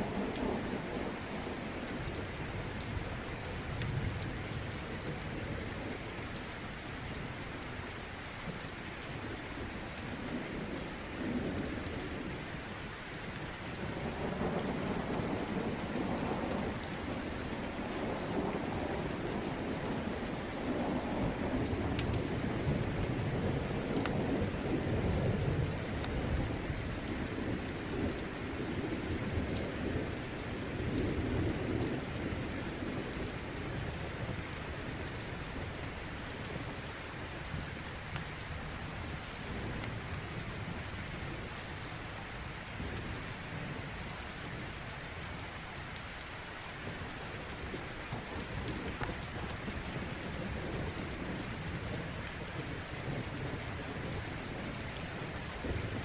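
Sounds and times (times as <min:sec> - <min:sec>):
low rumble of thunder: 0:00.0 - 0:06.6, 0:09.0 - 0:45.4, 0:46.8 - 0:56.0
steady rain: 0:00.0 - 0:56.0.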